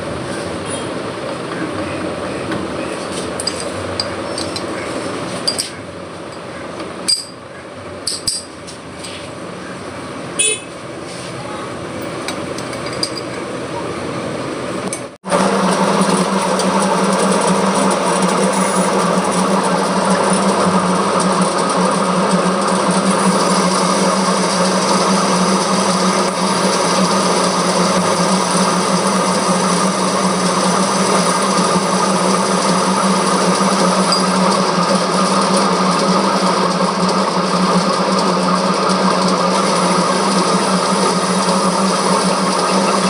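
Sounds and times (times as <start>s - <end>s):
metal lathe running: 0.0s - 8.5s, 14.6s - 43.0s.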